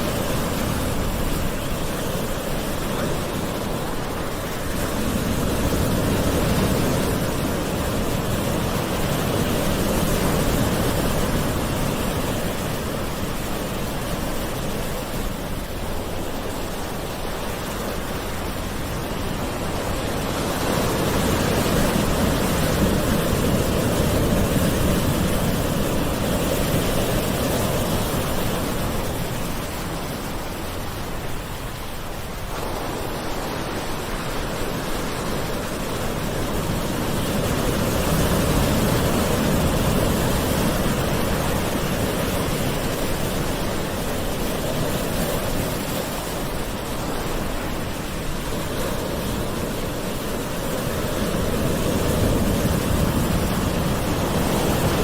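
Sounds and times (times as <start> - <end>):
gentle ocean waves washing ashore: 0.0 - 55.0.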